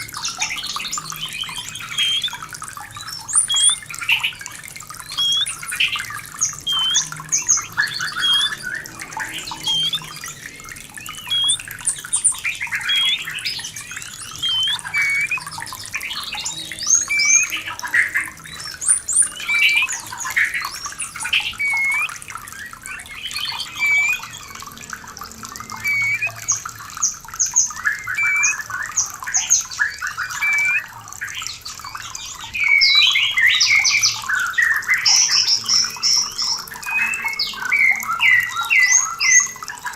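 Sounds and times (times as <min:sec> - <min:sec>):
bird chirps and whistles: 0:00.0 - 0:02.4, 0:03.0 - 0:04.4, 0:05.1 - 0:10.2, 0:11.0 - 0:24.6, 0:25.7 - 0:26.6, 0:27.6 - 0:39.6
running water: 0:00.0 - 0:39.9.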